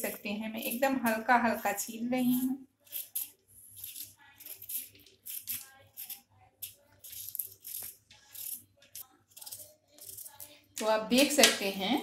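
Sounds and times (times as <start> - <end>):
knife scraping gourd skin: 0.6 - 10.5.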